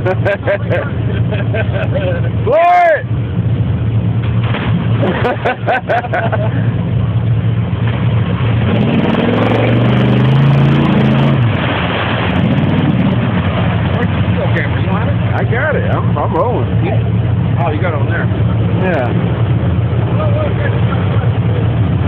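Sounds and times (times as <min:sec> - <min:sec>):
truck engine at full throttle: 0:00.0 - 0:22.0.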